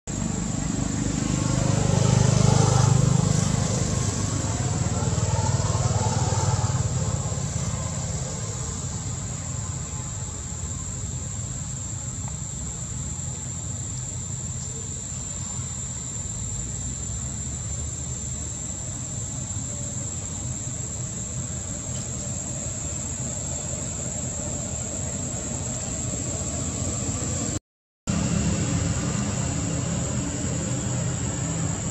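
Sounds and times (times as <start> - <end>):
insects droning: 0.1 - 31.9.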